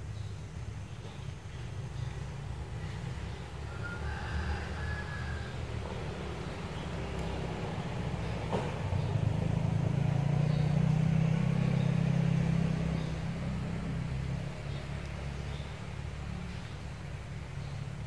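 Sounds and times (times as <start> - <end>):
passing vehicle engine rumble: 0.0 - 18.0.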